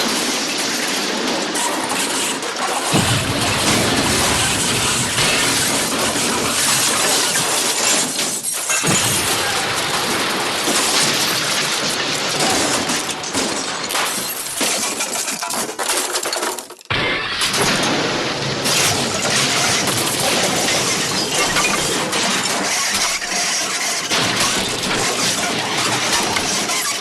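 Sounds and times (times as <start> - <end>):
glass shattering crash: 0.1 - 27.0.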